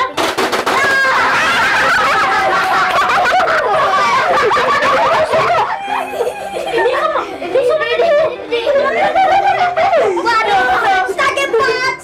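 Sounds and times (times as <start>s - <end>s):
children laughing and shrieking: 0.8s - 12.0s.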